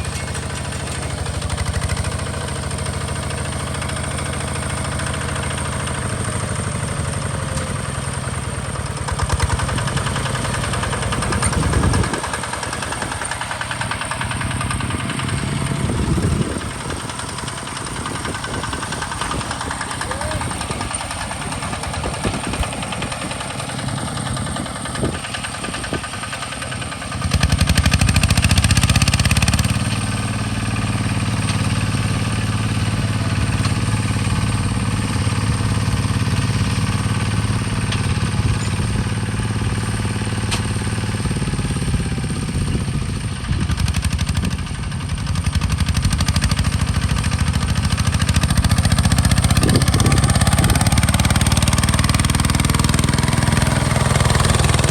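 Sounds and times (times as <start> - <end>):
diesel engine clattering: 0.0 - 54.9.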